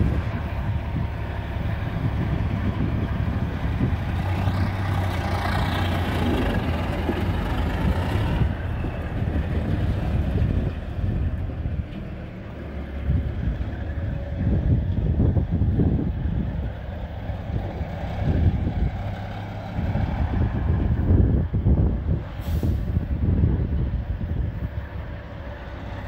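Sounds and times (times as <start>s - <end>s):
diesel truck engine idling: 0.0s - 26.0s
wind on microphone: 0.0s - 26.0s.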